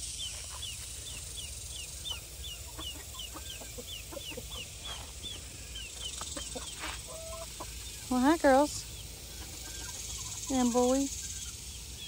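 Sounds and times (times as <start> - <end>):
chick peeping: 0.0 - 12.0
hens clucking softly: 0.3 - 10.5.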